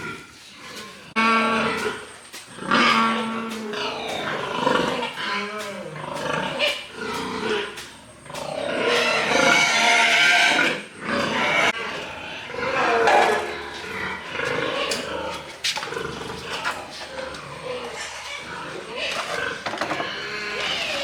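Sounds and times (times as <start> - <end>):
pigs squealing and grunting: 0.0 - 21.0.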